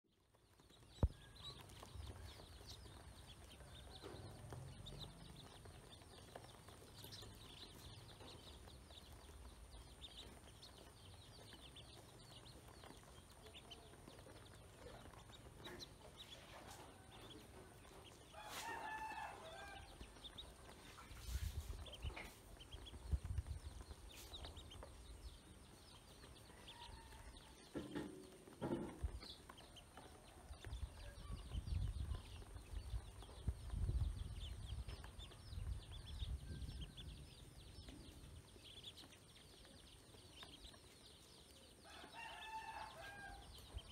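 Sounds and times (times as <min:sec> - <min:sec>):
ducklings peeping: 0:00.2 - 0:43.9.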